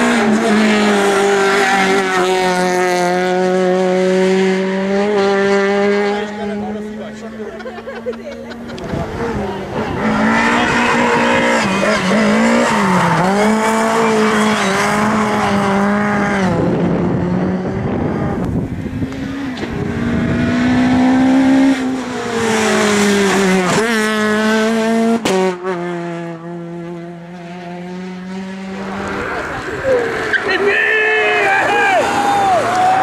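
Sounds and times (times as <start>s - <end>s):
race car engine at high revs: 0.0s - 33.0s.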